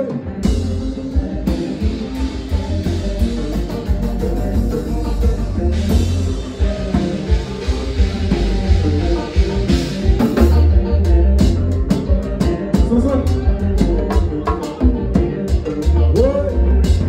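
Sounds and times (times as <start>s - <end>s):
drum kit: 0.0s - 17.0s
electric guitar: 0.0s - 17.0s
steady bass line: 0.0s - 17.0s.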